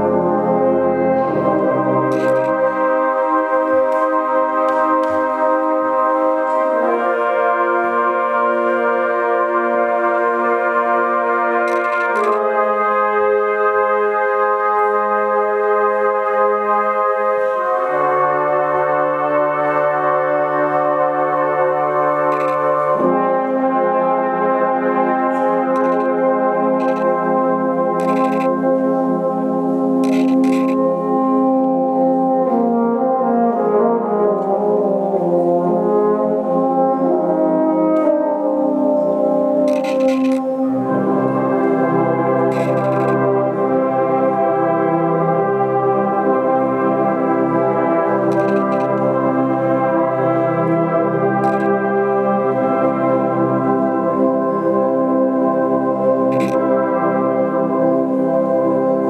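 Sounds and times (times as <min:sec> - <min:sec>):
brass band playing held chords: 0:00.0 - 0:59.0.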